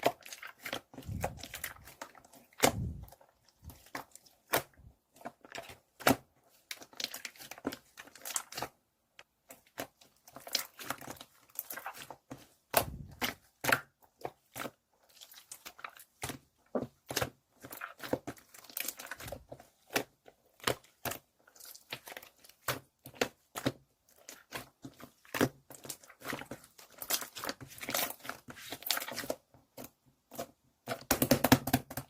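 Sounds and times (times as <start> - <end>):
slime clicking and crackling: 0.0 - 32.0.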